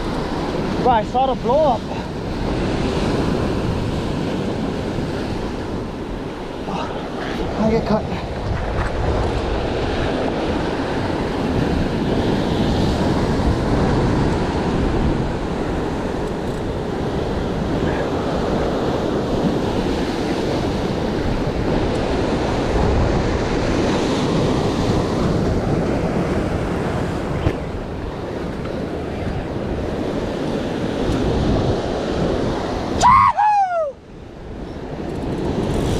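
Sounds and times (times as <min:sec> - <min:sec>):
surf breaking on rocky shore: 0:00.0 - 0:35.9
wind buffeting microphone: 0:00.0 - 0:35.9.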